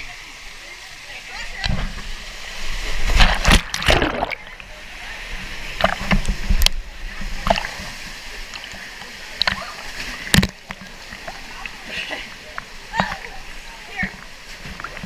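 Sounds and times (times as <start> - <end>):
water rushing: 0.0 - 15.0
water splashes: 0.0 - 15.0.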